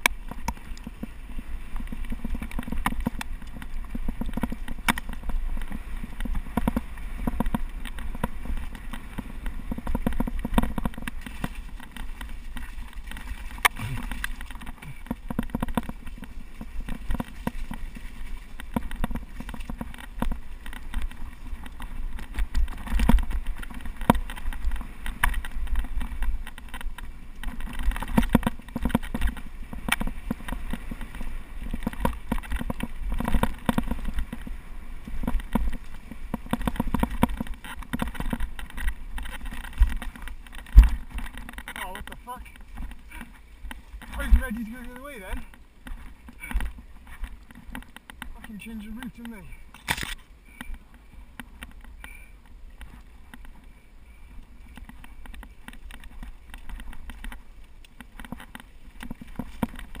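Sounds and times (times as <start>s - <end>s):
mountain bike rattling: 0.0s - 60.0s.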